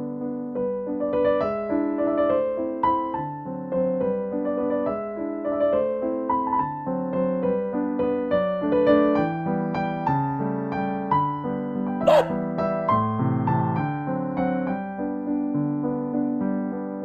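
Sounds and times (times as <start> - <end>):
gentle piano piece: 0.0 - 17.0.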